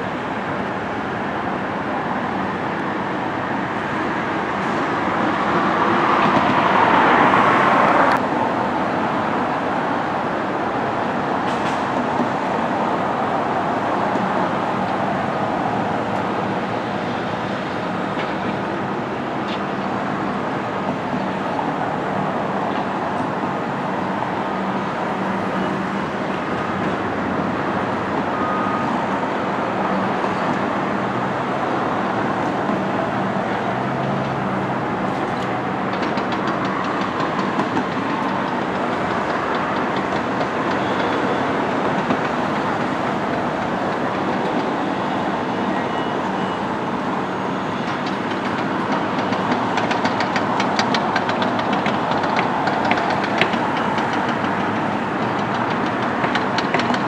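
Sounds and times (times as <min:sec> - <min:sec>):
heavy machinery engines: 0:00.0 - 0:57.0.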